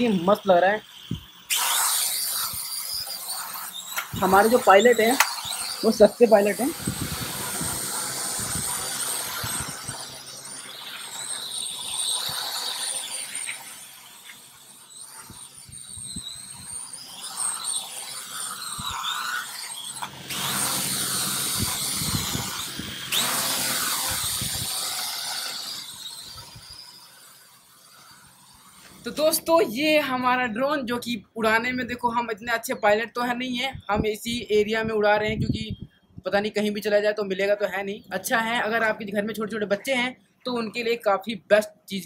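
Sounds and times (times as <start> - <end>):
quadcopter motors whining: 0.0 - 35.8.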